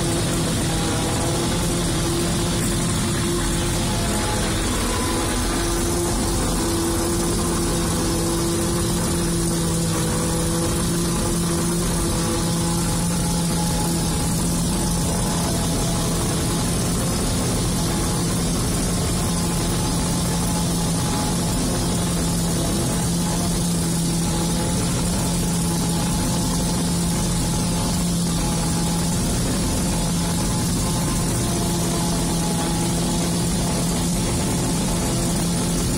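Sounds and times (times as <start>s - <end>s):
forage harvester droning: 0.0s - 35.9s.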